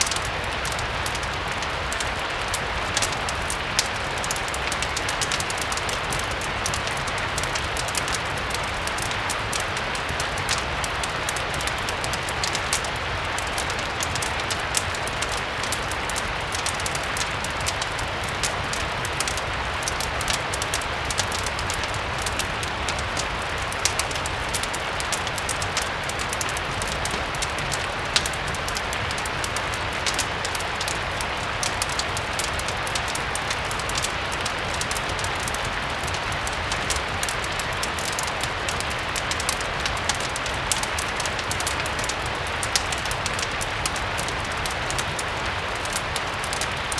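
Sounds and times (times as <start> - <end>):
crackling wood fire: 0.0 - 46.9
steady rain hiss: 0.0 - 46.9.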